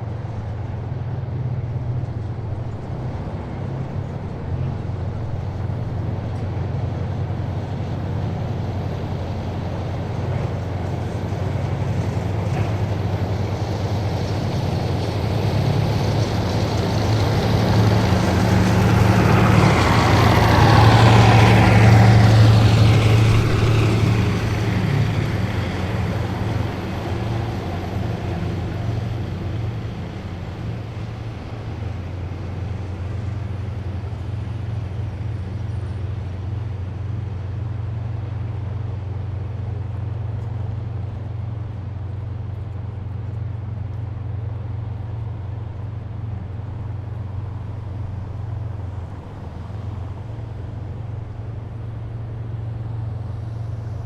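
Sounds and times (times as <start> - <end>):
heavy vehicles driving past: 0.0 - 54.0
higher engine whine: 0.0 - 54.0.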